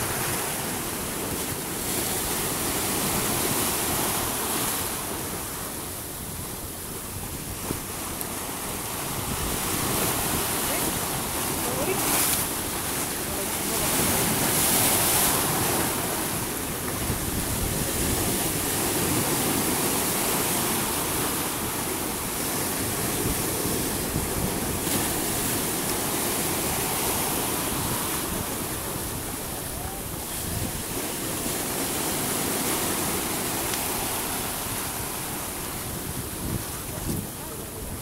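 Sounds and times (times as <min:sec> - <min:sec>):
seawater rushing along hull: 0:00.0 - 0:38.0
wind on microphone: 0:00.0 - 0:38.0.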